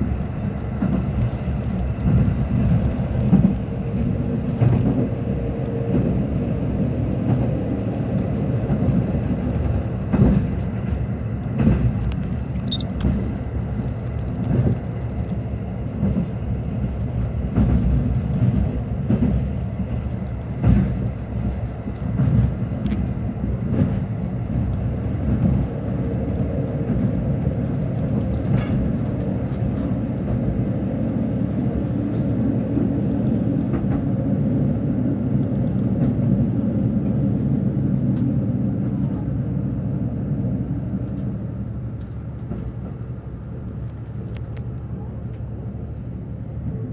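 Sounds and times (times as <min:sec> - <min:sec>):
train interior rumble: 0:00.0 - 0:46.9.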